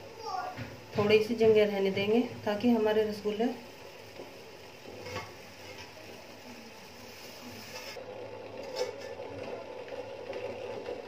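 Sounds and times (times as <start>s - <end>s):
syrup boiling in a pot: 0.1s - 11.0s.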